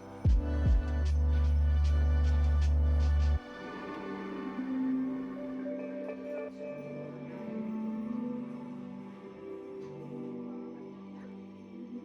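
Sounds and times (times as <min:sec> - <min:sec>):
calm music of long held notes: 0:00.0 - 0:12.0.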